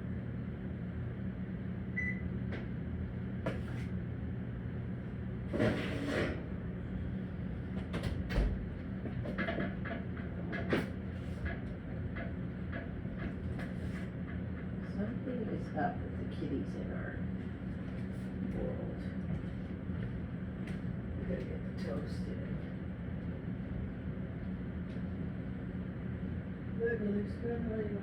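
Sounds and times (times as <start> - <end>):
low appliance hum: 0.0 - 28.0.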